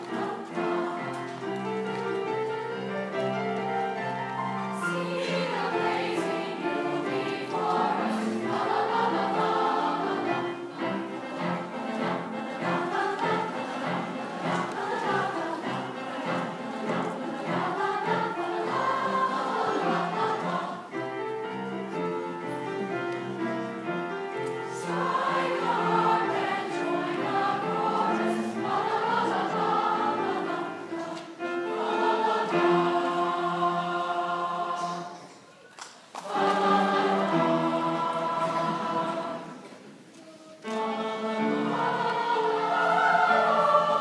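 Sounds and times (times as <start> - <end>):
mixed choir singing held notes: 0.0 - 44.0.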